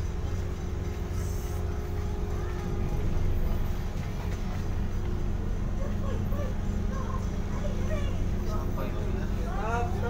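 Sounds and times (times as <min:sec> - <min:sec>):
faint hum: 0:00.0 - 0:10.0
ship engines rumbling: 0:00.0 - 0:10.0.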